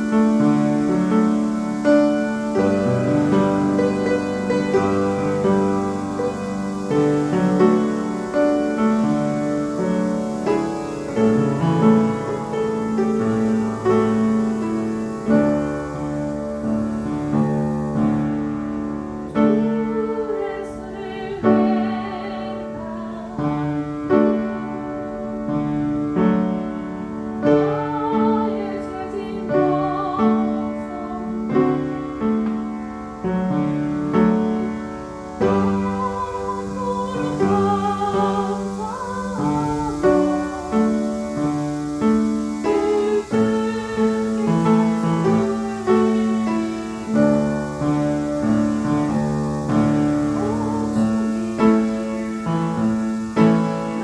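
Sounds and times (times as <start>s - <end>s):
person singing worship song: 0.0s - 16.6s, 19.2s - 24.8s, 27.4s - 32.8s, 33.5s - 54.0s
piano playing chords: 0.0s - 54.0s.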